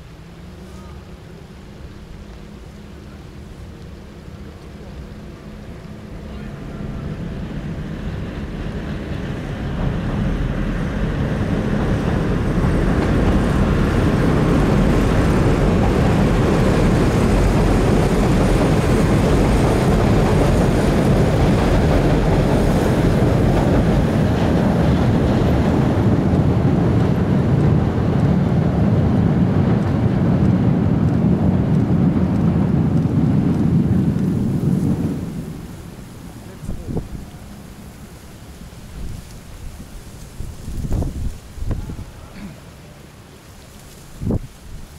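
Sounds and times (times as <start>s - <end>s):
train rumbling across bridge: 0.0s - 44.9s.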